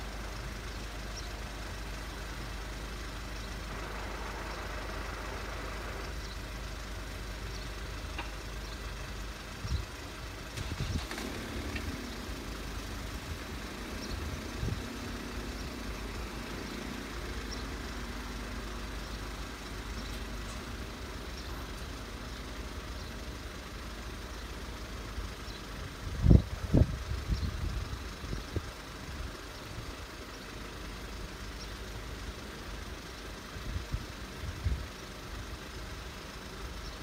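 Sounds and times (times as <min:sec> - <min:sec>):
vehicles idling rumble: 0:00.0 - 0:37.0.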